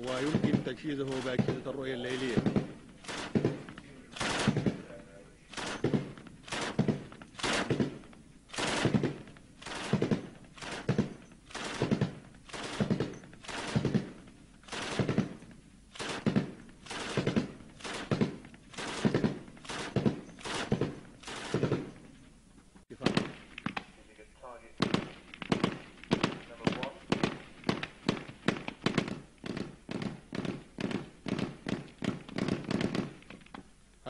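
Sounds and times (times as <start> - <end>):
heavy machine gun firing: 0.0 - 22.0, 24.8 - 33.2.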